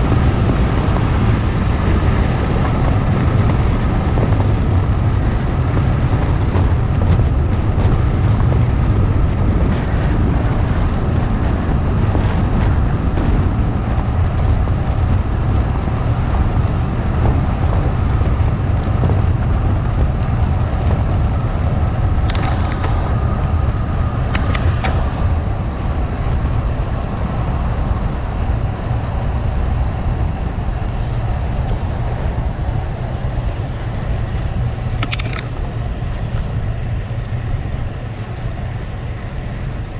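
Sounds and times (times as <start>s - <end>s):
bike tyres rolling on gravel: 0.0s - 39.9s.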